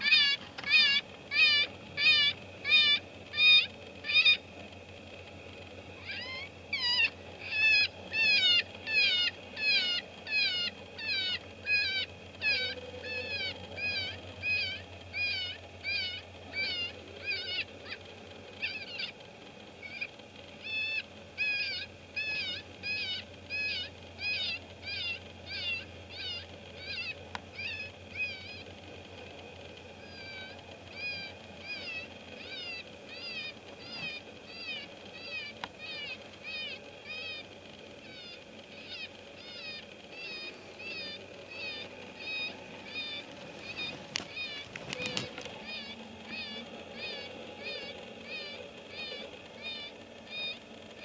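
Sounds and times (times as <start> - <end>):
electronic prey distress call: 0.0 - 4.5, 5.9 - 29.0, 29.6 - 51.0.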